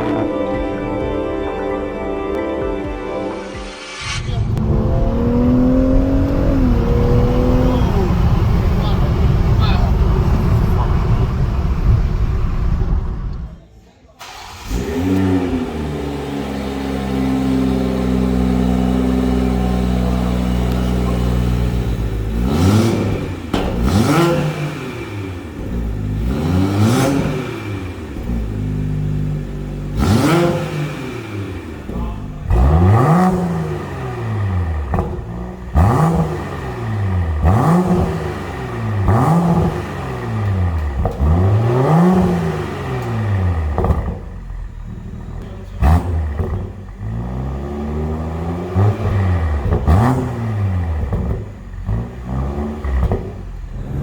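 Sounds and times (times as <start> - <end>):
car engine starting and idling: 0.0 - 54.0
engine revving: 3.4 - 13.6, 14.2 - 54.0.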